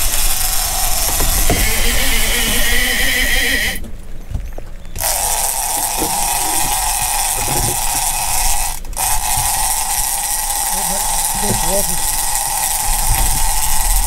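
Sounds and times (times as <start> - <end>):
fishing reel drag whining: 0.0 - 3.8, 5.0 - 14.0.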